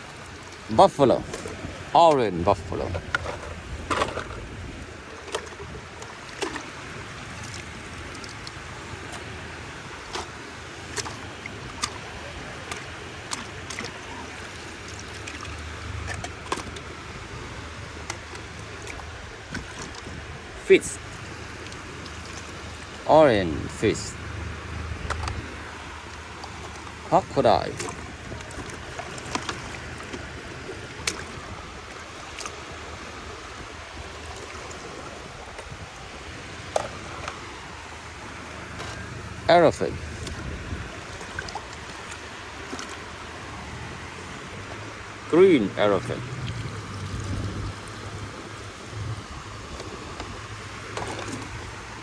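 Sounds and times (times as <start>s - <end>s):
water sloshing and trickling: 0.0s - 52.0s.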